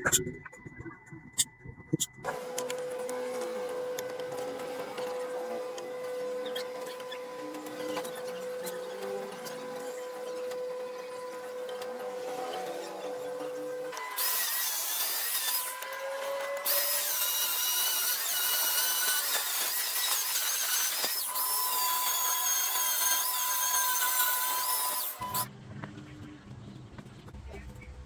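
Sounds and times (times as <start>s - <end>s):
power tool whining under load: 2.3s - 25.5s.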